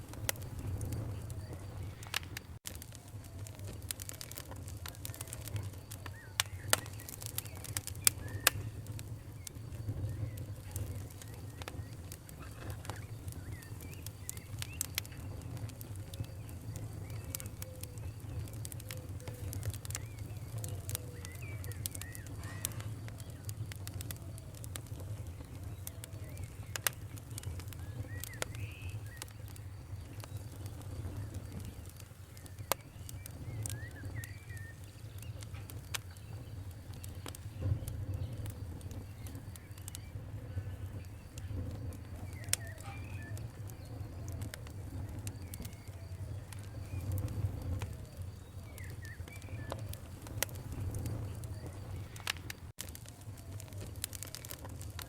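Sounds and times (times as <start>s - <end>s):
campfire crackling: 0.0s - 55.0s
faint bird calls: 3.1s - 52.5s.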